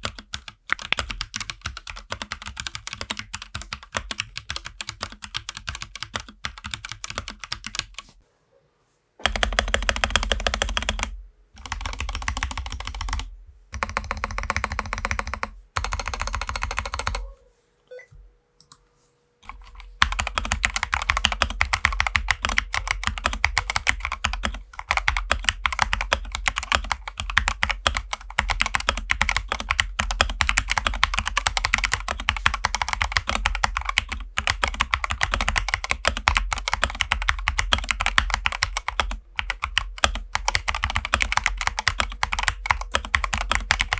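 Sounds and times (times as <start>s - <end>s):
mechanical keyboard typing: 0.0s - 8.0s, 9.2s - 17.3s, 19.4s - 43.9s.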